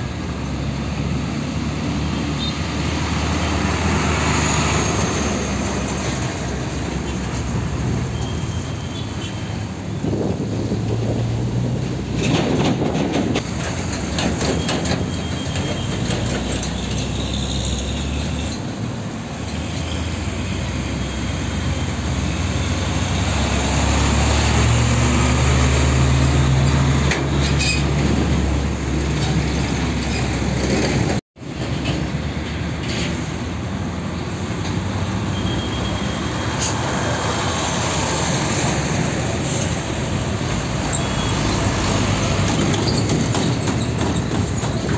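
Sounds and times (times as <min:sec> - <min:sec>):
diesel trucks driving past: 0:00.0 - 0:44.9.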